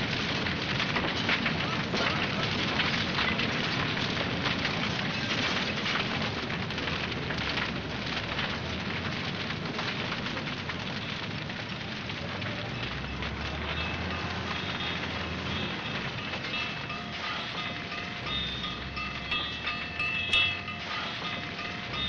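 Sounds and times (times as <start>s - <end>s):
steady rain hissing: 0.0s - 22.0s.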